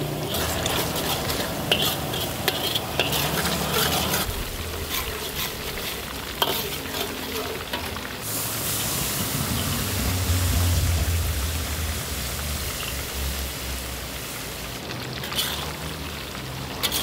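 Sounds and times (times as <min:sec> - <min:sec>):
food sizzling in oil: 0:00.0 - 0:17.0
metal spatula scraping wok: 0:00.0 - 0:17.0.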